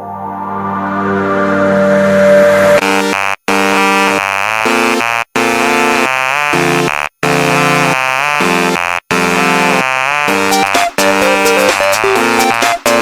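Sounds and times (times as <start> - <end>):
buzzing synthesizer chords: 0.0 - 13.0.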